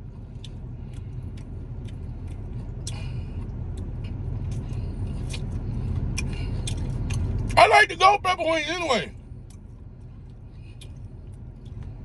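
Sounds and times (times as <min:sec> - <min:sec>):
chewing clicks and smacks: 0:00.0 - 0:07.6, 0:09.3 - 0:12.0.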